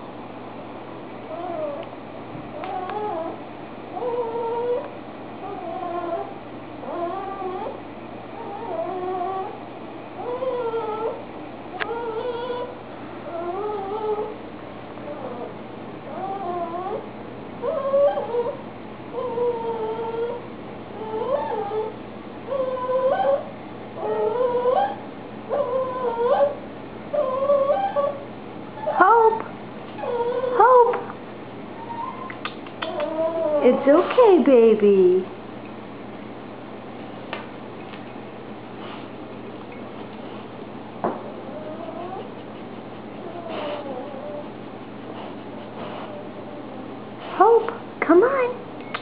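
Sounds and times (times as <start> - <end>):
puppy whining: 1.2 - 34.7, 38.8 - 49.0.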